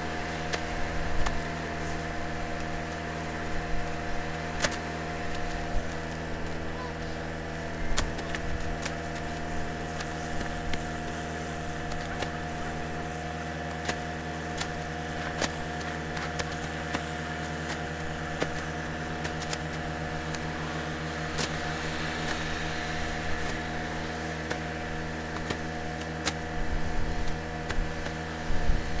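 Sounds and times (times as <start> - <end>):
farm machine engine running: 0.0 - 29.0.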